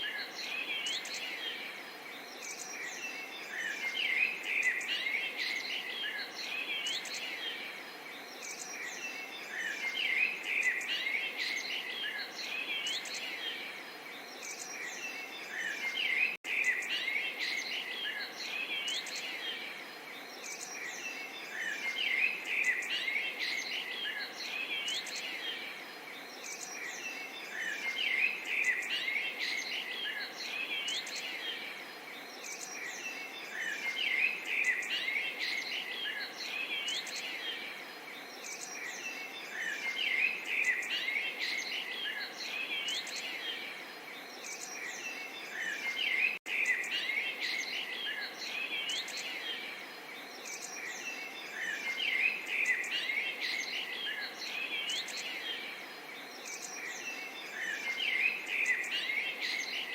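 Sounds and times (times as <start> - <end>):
songbirds chirping and twittering: 0.0 - 59.9.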